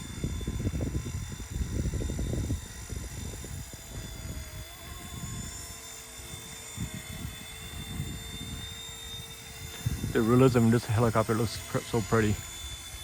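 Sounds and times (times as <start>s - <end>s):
remote-control helicopter whine: 0.0s - 13.0s
wind gusting on microphone: 0.0s - 13.0s.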